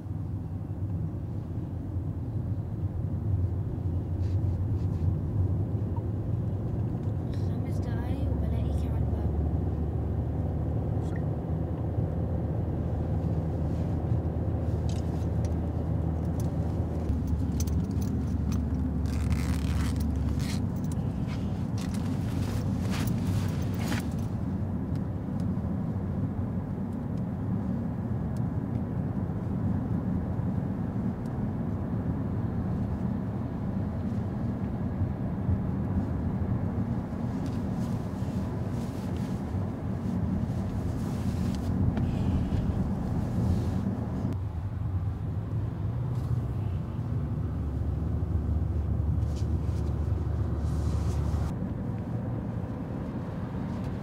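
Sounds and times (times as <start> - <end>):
engine and road noise rumble: 0.0 - 54.0.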